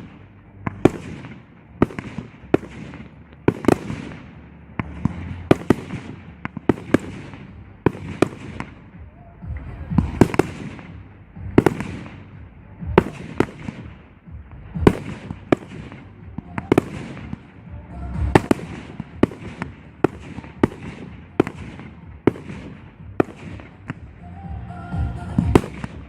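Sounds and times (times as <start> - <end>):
fireworks bursting with bangs: 0.0 - 26.0
low rumbling echo: 0.0 - 26.0.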